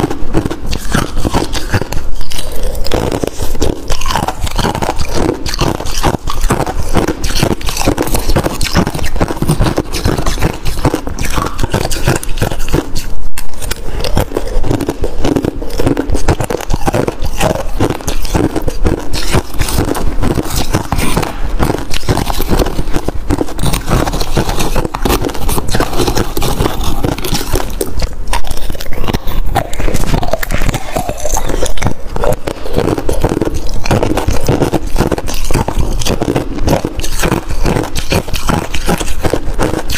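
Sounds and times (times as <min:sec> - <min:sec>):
frost being crunched and chewed: 0:00.0 - 0:39.9
metal spoon scraping frost: 0:00.0 - 0:39.9.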